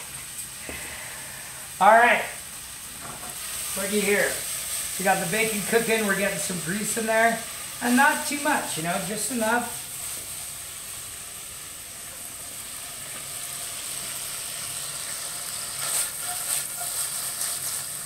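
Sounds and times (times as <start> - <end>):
bacon sizzling in a frying pan: 0.0 - 18.0.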